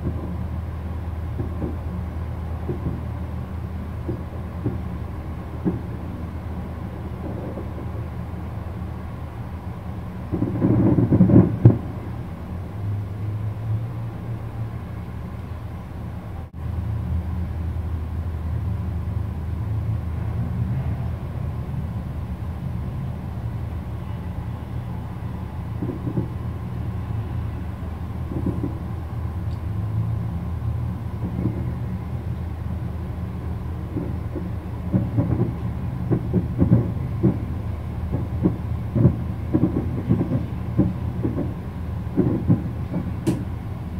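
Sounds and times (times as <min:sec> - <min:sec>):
distant fireworks booming: 0:00.0 - 0:15.6, 0:20.1 - 0:43.9
steady low rumble: 0:00.0 - 0:43.9.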